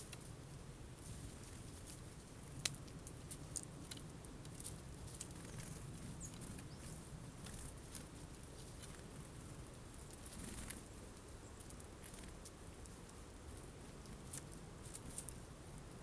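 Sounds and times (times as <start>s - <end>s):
birds pecking seeds: 0.0s - 16.0s.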